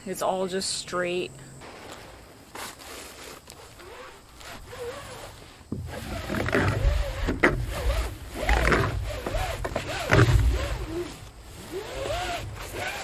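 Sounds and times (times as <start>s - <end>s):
underlayment sheet crinkling and scraping: 1.6s - 13.0s.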